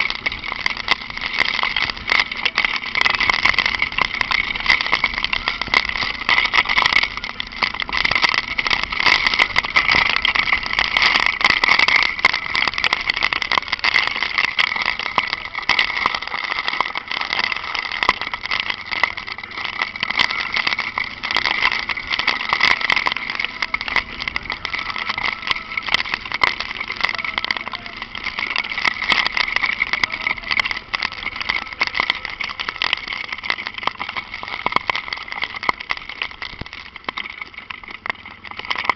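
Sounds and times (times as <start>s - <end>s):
rain ticks: 0.0s - 38.9s
wet road noise: 0.0s - 38.9s.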